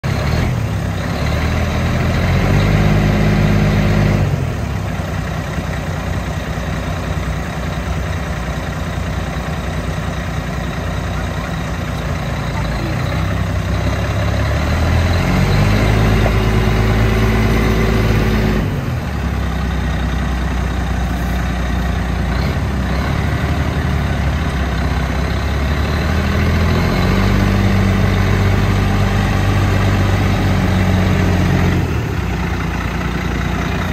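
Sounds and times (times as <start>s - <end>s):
diesel truck engine idling and revving: 0.0s - 33.9s.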